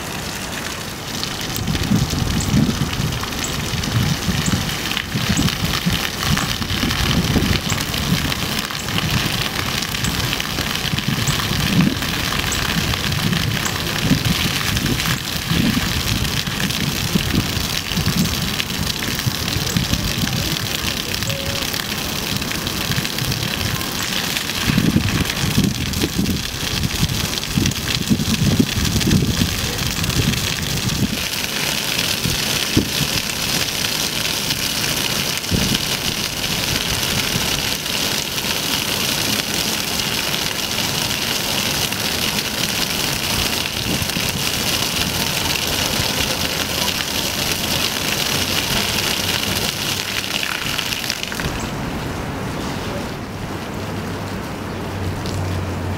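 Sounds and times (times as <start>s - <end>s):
fountain water spraying on stone: 0.0s - 55.9s.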